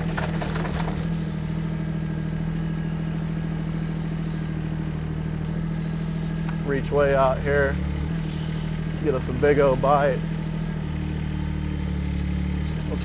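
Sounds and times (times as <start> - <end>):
excavator diesel engine idling: 0.0 - 13.0.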